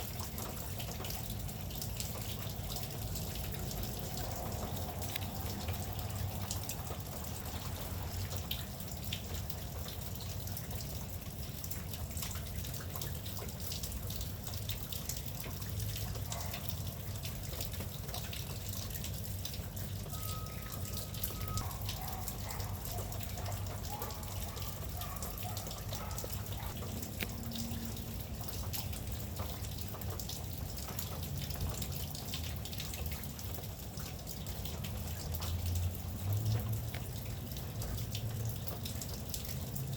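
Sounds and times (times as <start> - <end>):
rain falling: 0.0 - 39.9
sharp drip ticks: 0.0 - 39.9.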